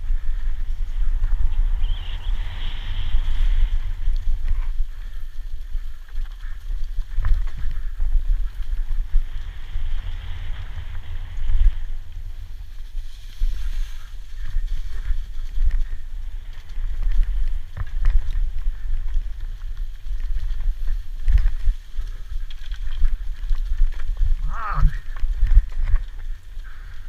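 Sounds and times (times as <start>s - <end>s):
bike tyres rumbling on dirt: 0.0s - 27.0s
wind buffeting camera: 0.0s - 27.0s.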